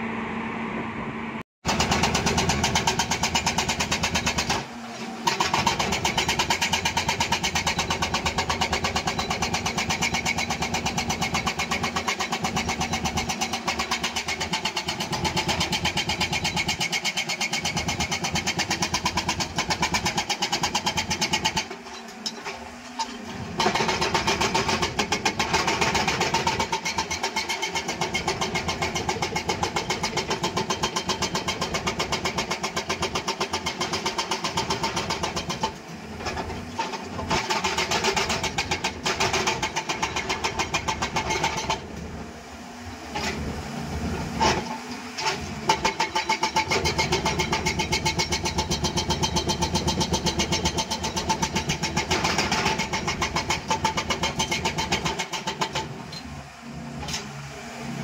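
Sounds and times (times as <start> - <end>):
hydraulic breaker hammering rubble: 1.6 - 42.1, 43.1 - 56.4.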